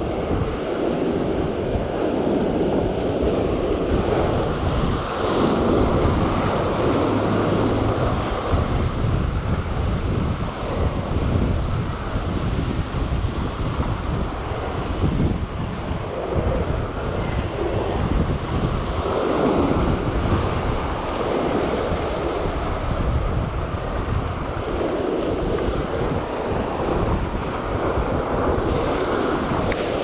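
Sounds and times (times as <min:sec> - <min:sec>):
wind buffeting microphone: 0:00.0 - 0:30.0
surf breaking on rocks: 0:00.3 - 0:30.0.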